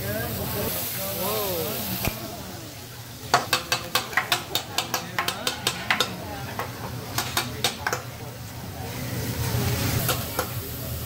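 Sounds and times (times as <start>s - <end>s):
food sizzling on a griddle: 0.0s - 11.0s.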